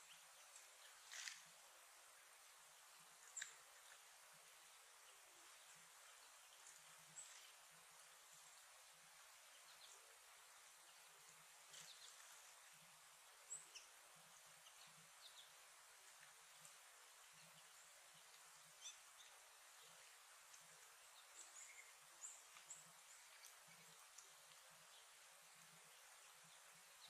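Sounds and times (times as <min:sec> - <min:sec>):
songbirds chipping and tweeting: 0:00.0 - 0:27.0
steady background hiss: 0:00.0 - 0:27.0.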